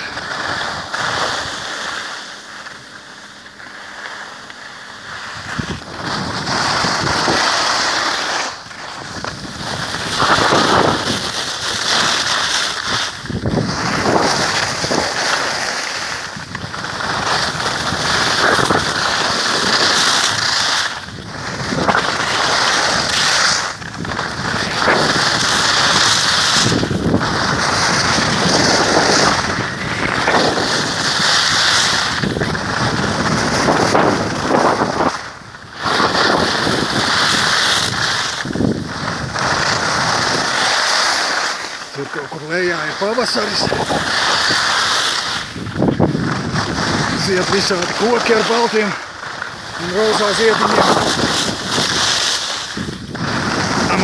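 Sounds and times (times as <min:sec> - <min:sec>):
skis scraping over packed snow: 0:00.0 - 0:54.0
wind rushing across microphone: 0:05.0 - 0:41.0, 0:41.8 - 0:54.0.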